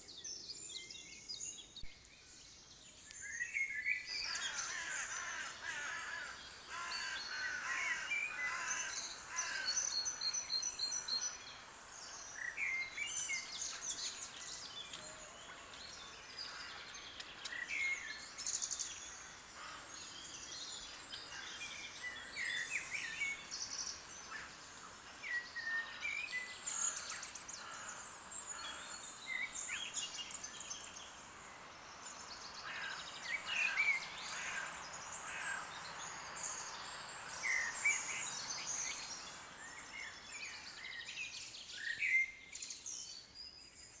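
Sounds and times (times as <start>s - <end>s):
faint background hiss: 0.0s - 44.0s
songbirds chirping and singing: 0.0s - 44.0s.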